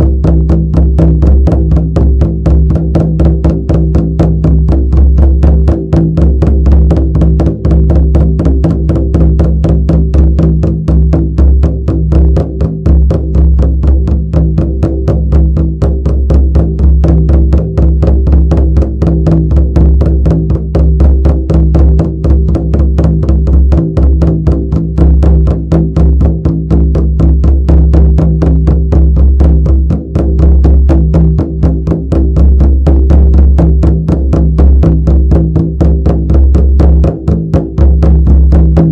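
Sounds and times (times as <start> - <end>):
frame drum beating: 0.0 - 38.9.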